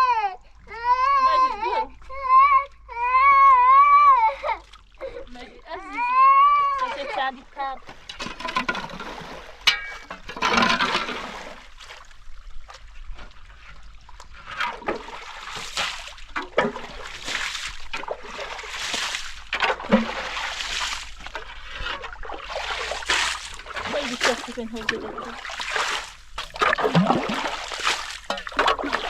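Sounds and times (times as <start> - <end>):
water splashing in pool: 3.3 - 29.0.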